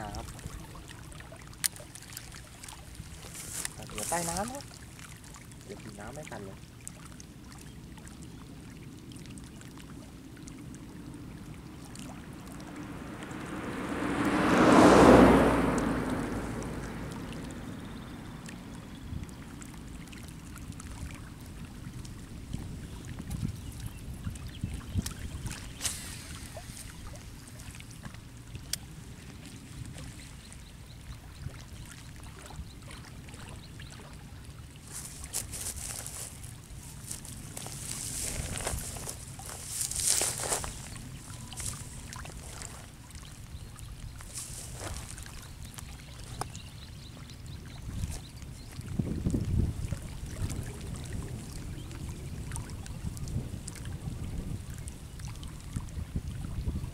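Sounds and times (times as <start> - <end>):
wind rumble on microphone: 0.0 - 1.6, 7.3 - 56.9
light water sounds: 0.0 - 56.9.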